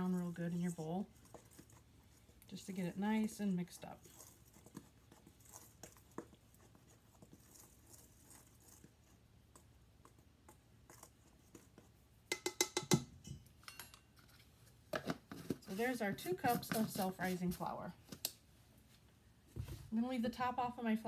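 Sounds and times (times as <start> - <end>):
stirring in a metal bowl: 0.0 - 17.8.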